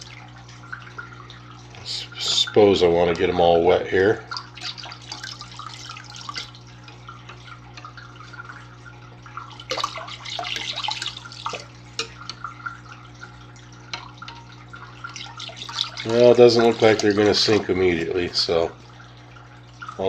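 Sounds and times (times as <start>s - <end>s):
steady low hum: 0.0s - 20.0s
water splashing in a small tank: 0.0s - 20.0s.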